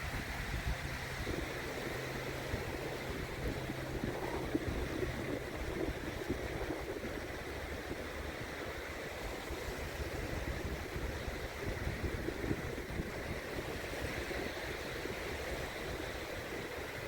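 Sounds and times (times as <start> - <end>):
small waves washing onto sand: 0.0 - 17.0
wind: 0.0 - 17.0.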